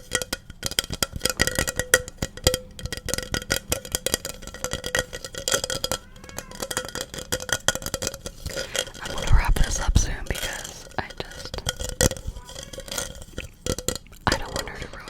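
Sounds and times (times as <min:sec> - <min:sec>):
fast tapping on hard object: 0:00.0 - 0:15.0.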